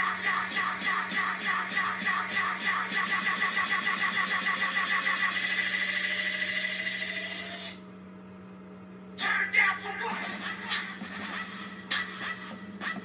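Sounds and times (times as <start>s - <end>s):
electronic dance music: 0.0s - 7.8s, 10.0s - 13.0s
low steady hum: 0.0s - 13.0s.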